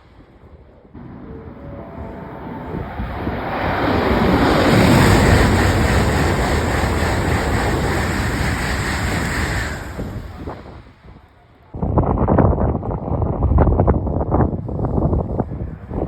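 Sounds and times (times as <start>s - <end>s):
high-speed train passing: 0.0s - 11.7s, 14.2s - 16.0s.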